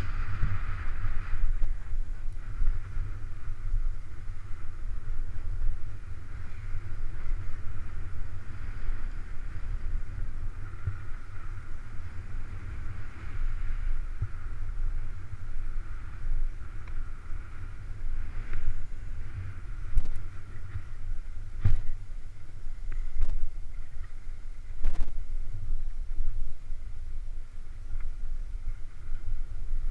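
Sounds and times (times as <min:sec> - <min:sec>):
skis sliding over snow: 0:00.0 - 0:29.9
wind buffeting microphone: 0:00.0 - 0:29.9.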